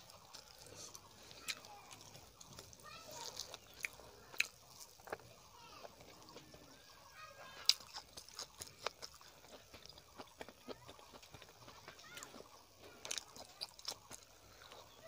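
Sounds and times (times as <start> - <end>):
chewing and lip-smacking: 0.0 - 15.0.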